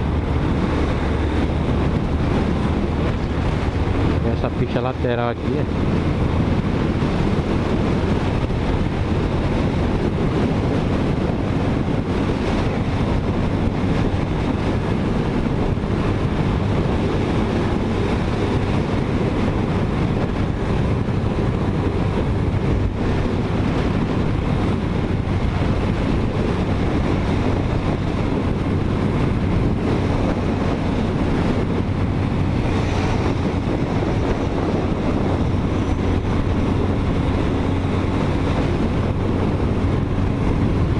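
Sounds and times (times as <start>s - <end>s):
motorcycle engine hum: 0.0s - 40.9s
wind buffeting microphone: 0.0s - 40.9s.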